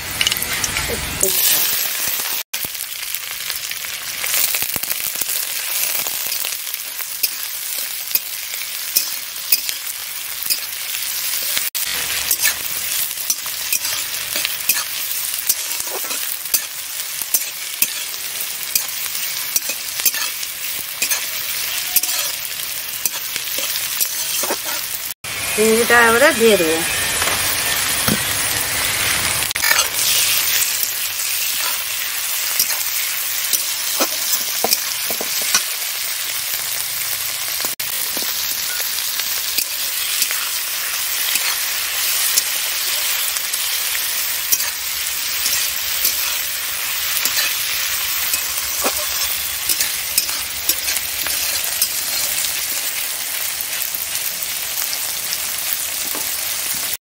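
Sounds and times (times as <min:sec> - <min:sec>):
prawns sizzling in hot oil: 0:00.0 - 0:57.0.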